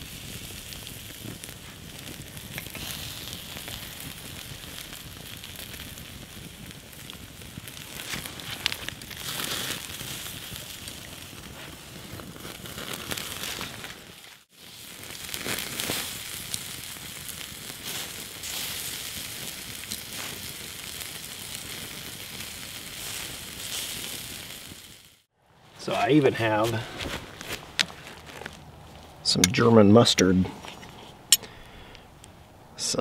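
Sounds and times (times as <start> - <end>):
sausages sizzling on grill: 0.0 - 26.6
fire crackling: 0.0 - 33.0.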